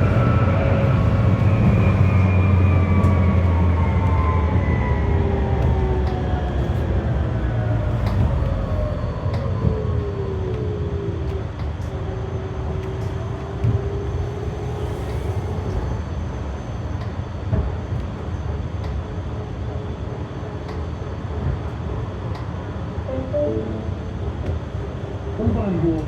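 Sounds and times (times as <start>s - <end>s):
tram rumbling on track: 0.0s - 23.2s.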